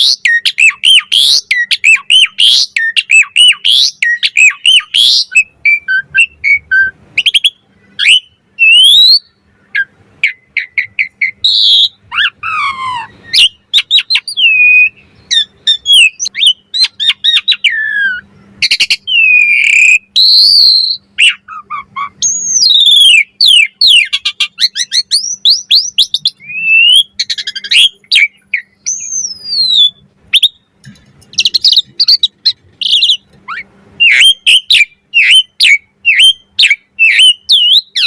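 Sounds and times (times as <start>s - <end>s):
starling singing loud whistles: 0.0s - 30.7s, 31.4s - 38.0s.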